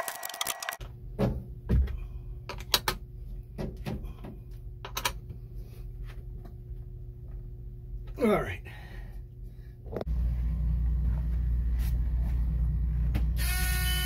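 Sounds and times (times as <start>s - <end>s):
low steady hum: 0.7s - 14.0s.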